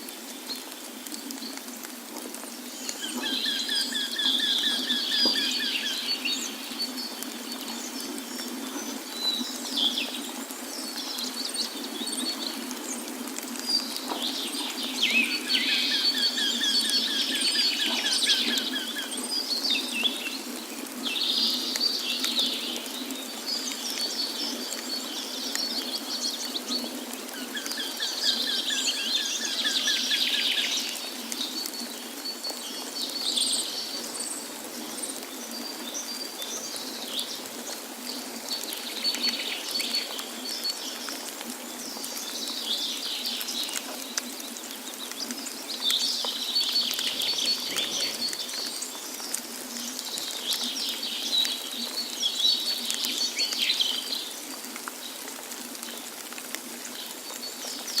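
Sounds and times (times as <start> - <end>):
rush of falling water: 0.0 - 58.0
songbirds singing and chirping: 0.1 - 56.2.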